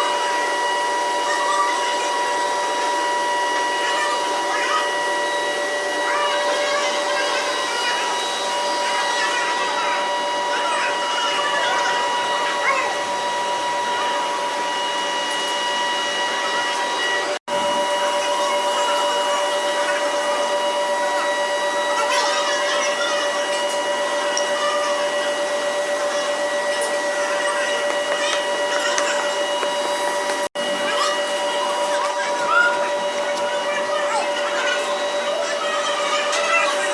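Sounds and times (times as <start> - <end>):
machine motor high whine: 0.0 - 36.9.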